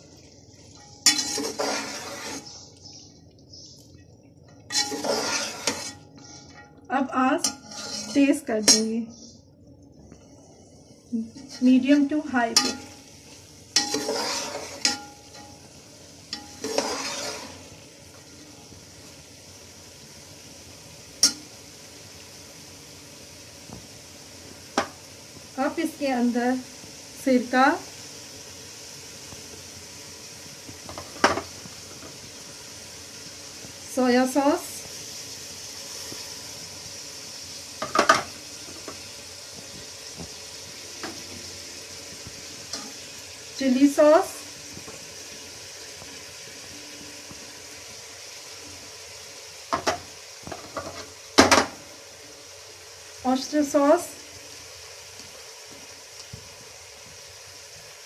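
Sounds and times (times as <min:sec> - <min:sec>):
sizzling in hot oil: 0:00.0 - 0:58.0
vegetables stirred in a pot: 0:00.0 - 0:58.0.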